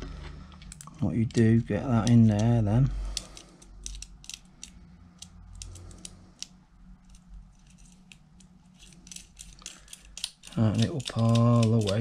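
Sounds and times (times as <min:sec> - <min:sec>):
low steady hum: 0:00.0 - 0:12.0
small metal parts clicking: 0:00.6 - 0:12.0.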